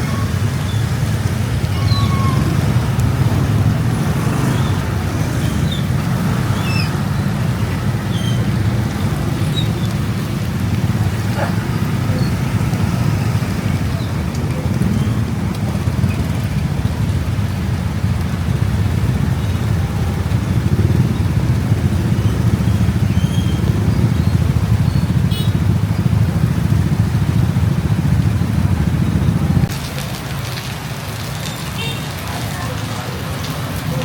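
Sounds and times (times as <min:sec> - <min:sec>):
motorbike engine rumble: 0:00.0 - 0:30.5
road noise: 0:00.0 - 0:34.0.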